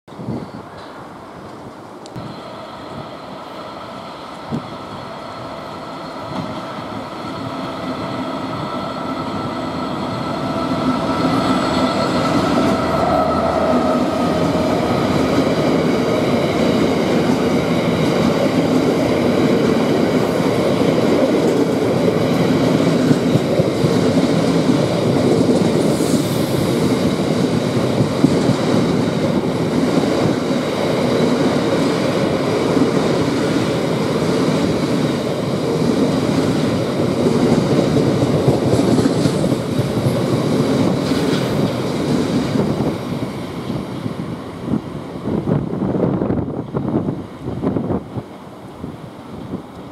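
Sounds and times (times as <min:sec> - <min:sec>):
diesel locomotive engine: 0:00.1 - 0:49.9.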